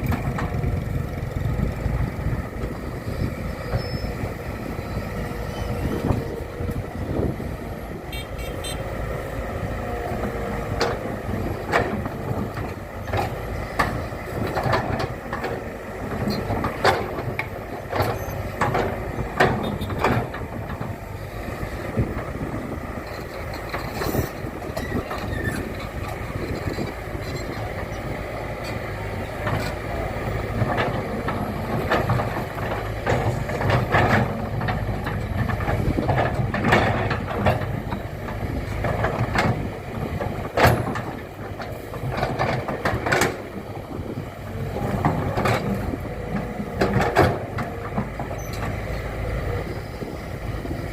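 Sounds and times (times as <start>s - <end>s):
heavy vehicle engine rumbling: 0.0s - 50.9s.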